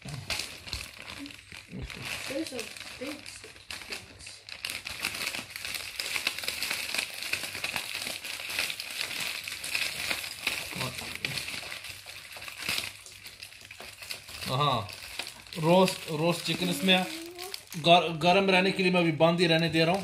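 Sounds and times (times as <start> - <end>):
plastic bag and foil crinkling: 0.0 - 20.0.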